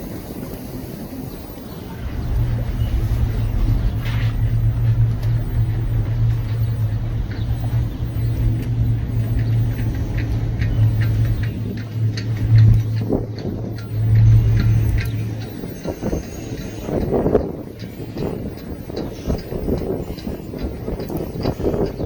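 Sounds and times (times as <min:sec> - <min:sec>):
boat engine droning: 0:00.0 - 0:22.0
water noise: 0:00.0 - 0:22.0
wind: 0:00.0 - 0:22.0.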